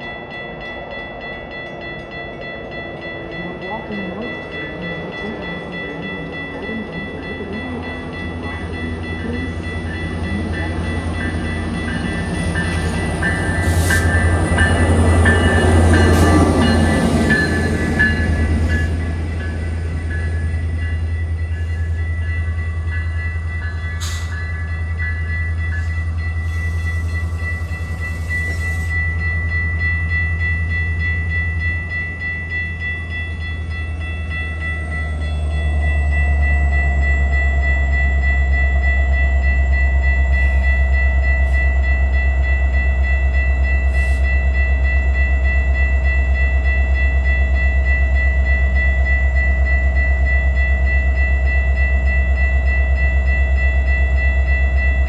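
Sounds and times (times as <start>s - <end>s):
locomotive engine drone: 0.0s - 55.0s.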